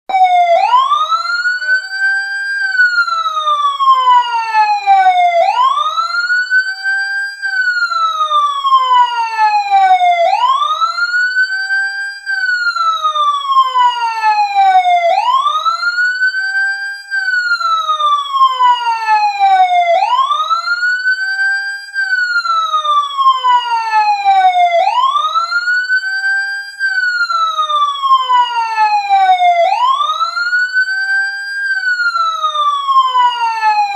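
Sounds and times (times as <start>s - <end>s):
wailing siren ringtone: 0.1s - 33.9s.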